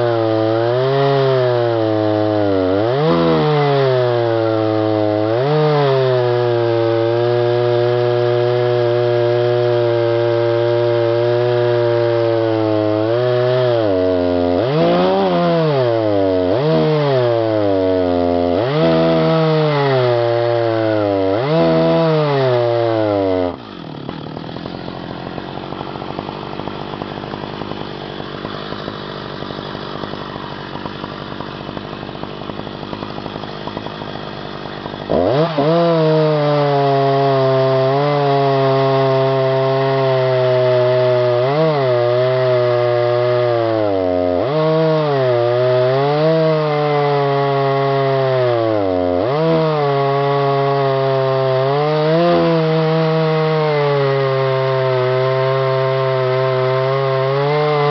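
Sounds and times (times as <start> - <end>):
chainsaw idling and cutting log: 0.0 - 57.9.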